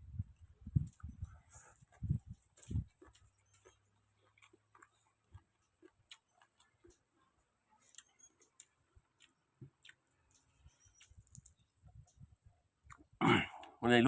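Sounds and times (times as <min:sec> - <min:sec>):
person chewing quietly: 0:00.2 - 0:13.8.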